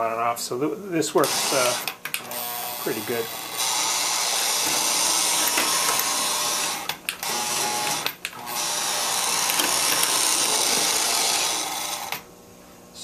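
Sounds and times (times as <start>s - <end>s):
motor grinding mechanical whir: 1.2s - 12.2s.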